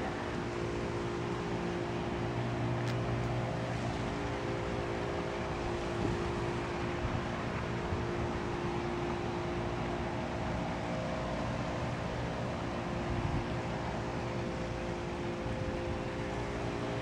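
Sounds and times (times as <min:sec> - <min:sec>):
steady motor hum: 0:00.0 - 0:17.0.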